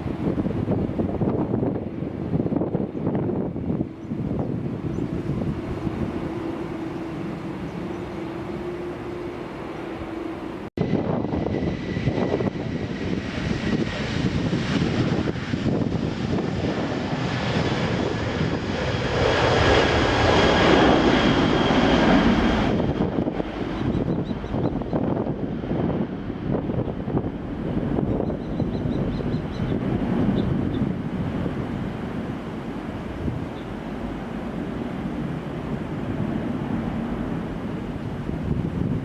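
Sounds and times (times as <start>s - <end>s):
jet engines roaring and whining: 0.0s - 39.0s.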